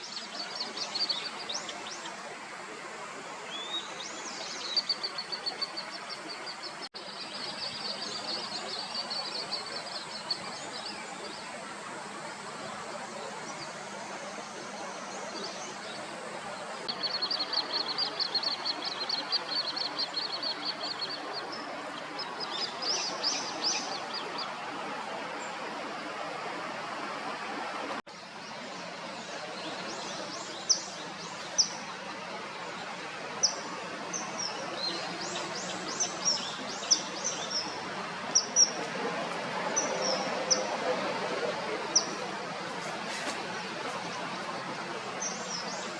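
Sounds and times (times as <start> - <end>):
outdoor background noise: 0.0 - 45.9.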